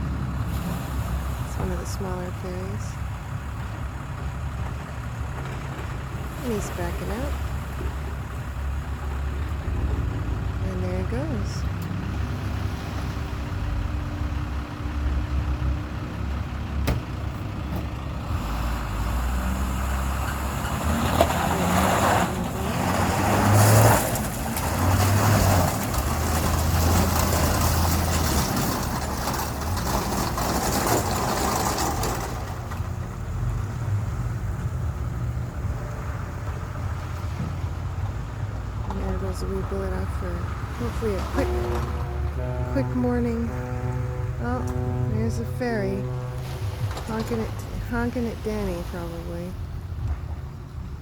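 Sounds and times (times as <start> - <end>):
engine running with low hum: 0.0 - 51.0.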